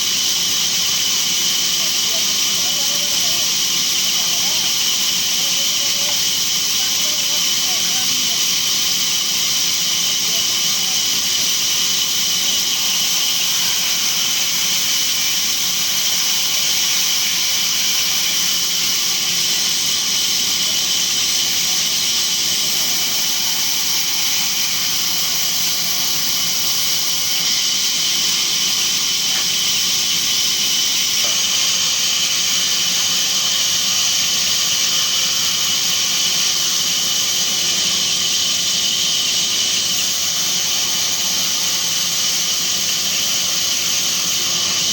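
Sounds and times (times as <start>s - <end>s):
band sawmill running: 0.0s - 44.9s.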